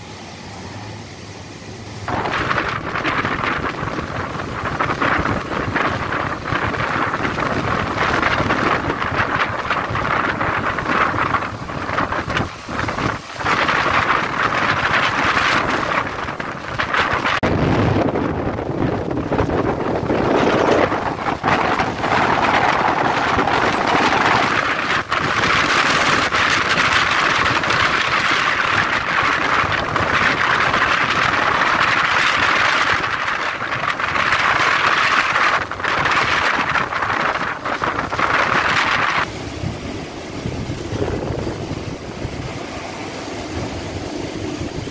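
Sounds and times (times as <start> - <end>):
heavy driving rain: 0.0 - 44.9
wind rushing: 1.8 - 44.9
wind buffeting microphone: 1.9 - 44.9.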